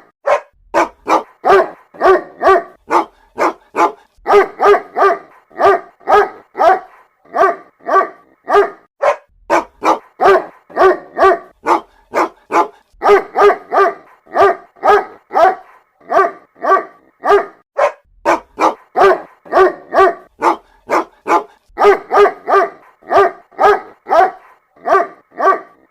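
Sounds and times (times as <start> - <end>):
dog barking: 0.2 - 25.9.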